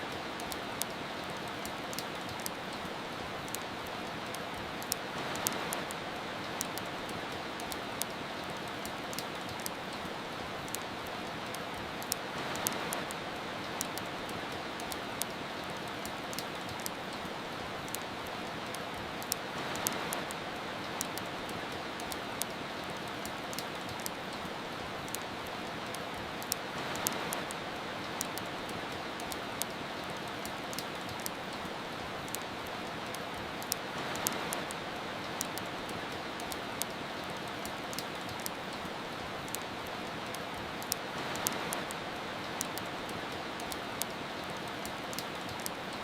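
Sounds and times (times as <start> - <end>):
steady rain: 0.0 - 46.0
wood fire crackling and popping: 0.0 - 46.0.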